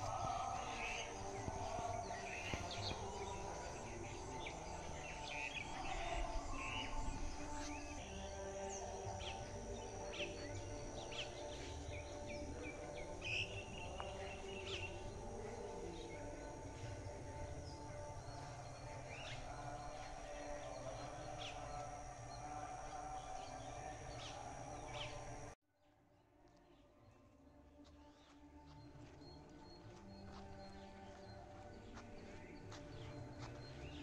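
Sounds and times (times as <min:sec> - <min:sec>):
birds chirping: 0:00.0 - 0:25.6, 0:28.0 - 0:34.0.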